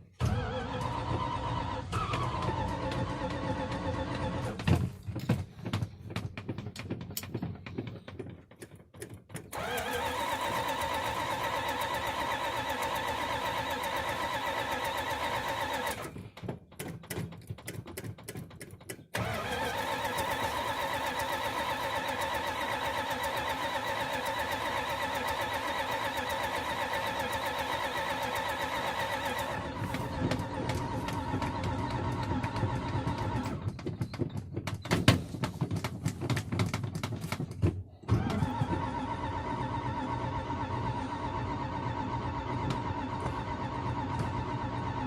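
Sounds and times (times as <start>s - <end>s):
engine sputtering and starting: 0.0s - 45.0s.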